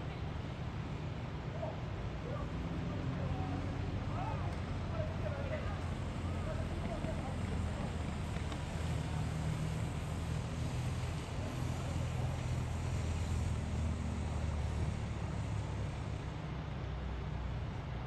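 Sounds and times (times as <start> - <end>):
low engine hum: 0.0 - 18.0
road traffic noise: 0.0 - 18.0.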